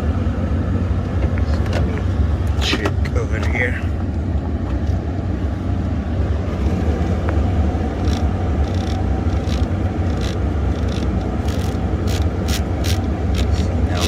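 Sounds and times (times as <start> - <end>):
pickup engine low rumble: 0.0 - 14.0.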